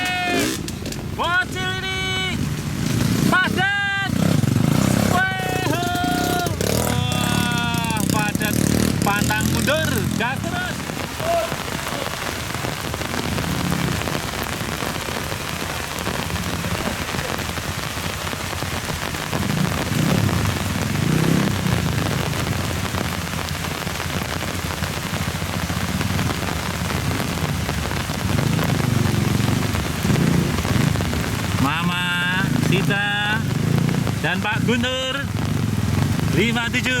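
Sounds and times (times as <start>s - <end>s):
heavy rain hissing: 0.0s - 37.0s
motorcycle engine running: 2.4s - 36.6s.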